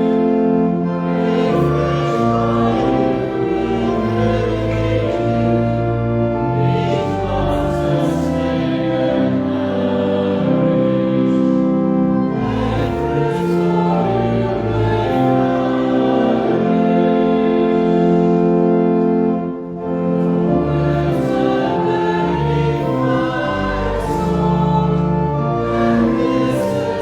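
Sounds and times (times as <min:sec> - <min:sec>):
choir singing a hymn: 0:00.0 - 0:27.0
instrumental accompaniment: 0:00.0 - 0:27.0.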